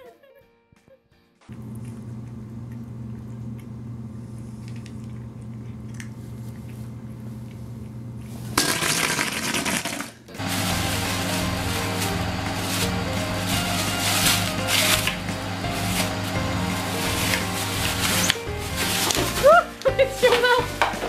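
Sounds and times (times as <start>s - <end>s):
low electrical hum: 1.5s - 20.9s.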